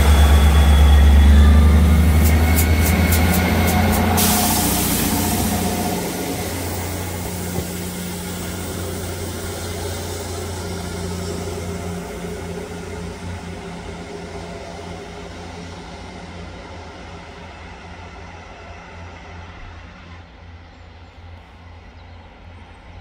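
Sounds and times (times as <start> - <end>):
diesel train engine drone: 0.0 - 23.0
rail noise: 0.0 - 23.0.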